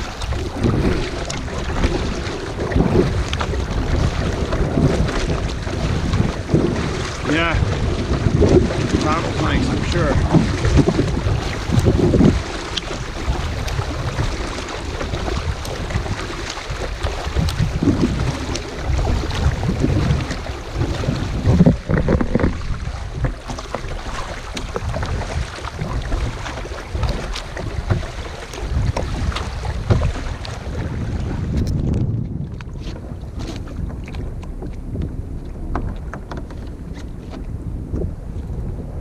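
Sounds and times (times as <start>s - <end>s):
water splashes and lapping: 0.0s - 39.0s
wind buffeting microphone: 0.0s - 39.0s.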